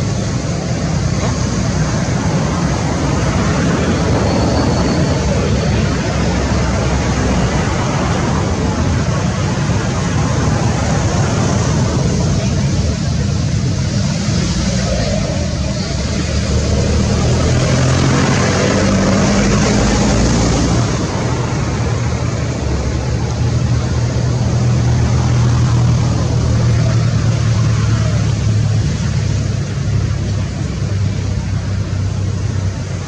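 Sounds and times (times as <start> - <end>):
road noise: 0.0 - 33.0
vehicle engine humming: 0.0 - 33.0.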